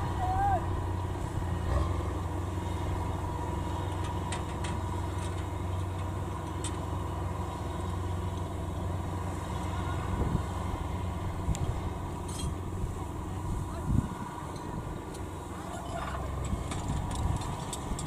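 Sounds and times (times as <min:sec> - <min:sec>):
combine harvester engine droning: 0:00.0 - 0:18.0.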